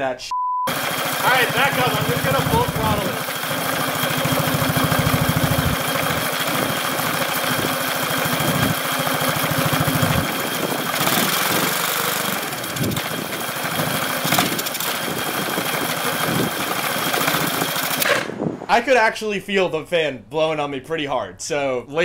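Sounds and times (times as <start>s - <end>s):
motorcycle engine at full throttle: 0.7s - 18.4s.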